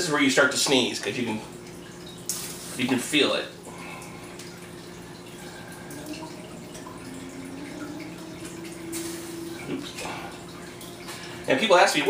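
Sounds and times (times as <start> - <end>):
steady low hum: 0.0 - 12.0
water dripping and splashing: 0.0 - 12.0.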